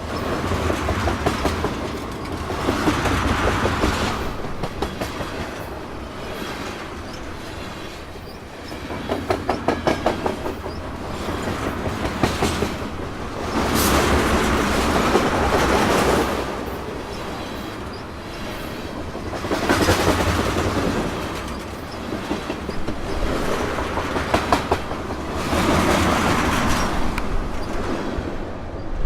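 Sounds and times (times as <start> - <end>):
freight train wheels clicking: 0.0 - 29.0.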